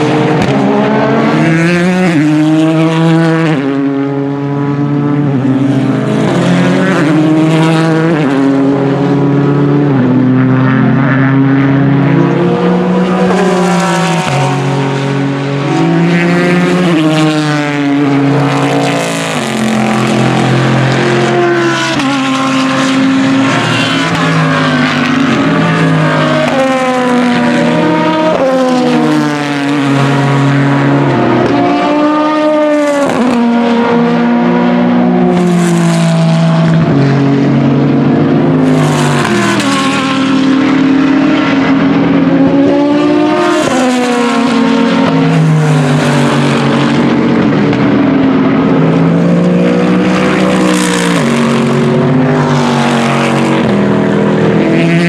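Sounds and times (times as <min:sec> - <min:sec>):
race car engines: 0:00.0 - 0:55.0.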